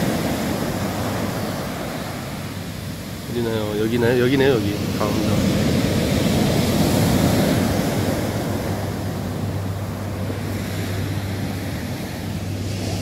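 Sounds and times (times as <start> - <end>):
surf breaking on sand beach: 0.0 - 13.0
wind rumbling on microphone: 0.0 - 13.0.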